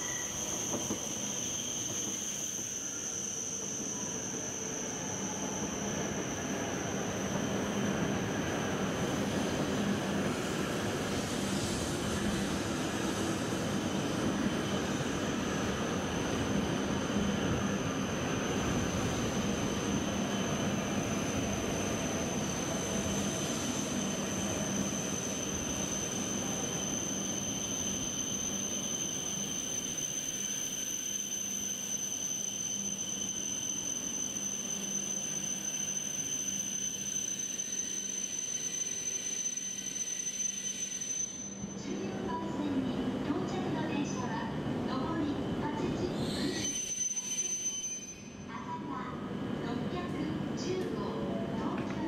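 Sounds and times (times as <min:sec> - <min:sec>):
train rolling noise: 0:00.0 - 0:48.2.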